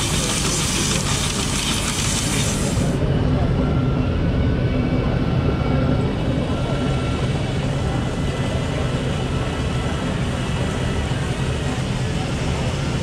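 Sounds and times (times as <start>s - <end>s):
busy exhibition hall din: 0.0s - 13.0s.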